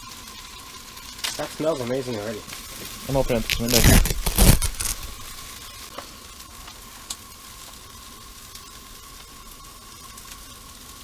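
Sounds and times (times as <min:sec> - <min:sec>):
faint crackles: 0:00.0 - 0:11.0
food sizzling in a pan: 0:00.0 - 0:11.0.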